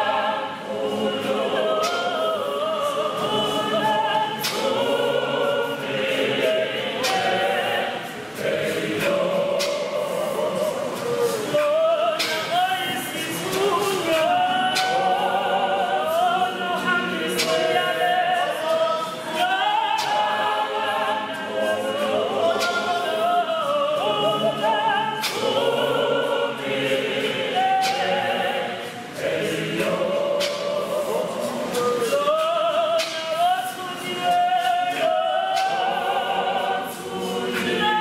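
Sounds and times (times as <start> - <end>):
mixed choir singing: 0.0 - 38.0.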